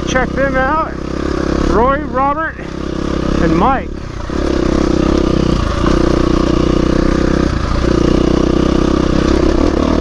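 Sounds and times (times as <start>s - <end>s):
dirt bike engine under throttle: 0.0s - 10.0s.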